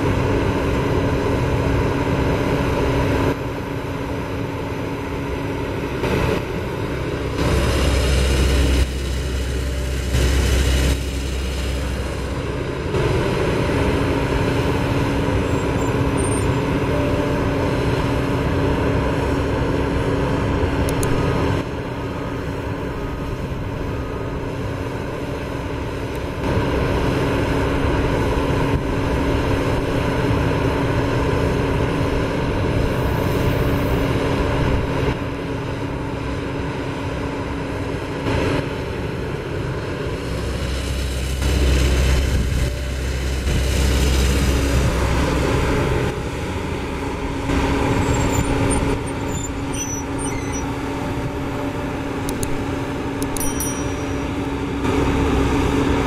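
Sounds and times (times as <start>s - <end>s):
excavator diesel engine drone: 0.0s - 56.0s
steady hum: 0.0s - 56.0s.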